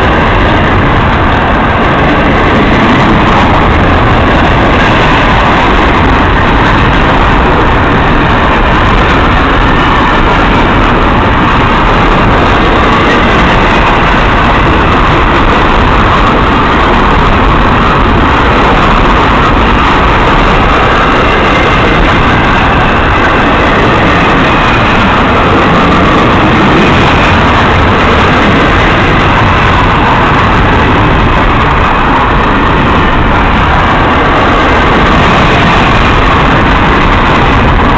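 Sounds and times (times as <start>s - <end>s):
freight train rolling on rails: 0.0s - 37.9s.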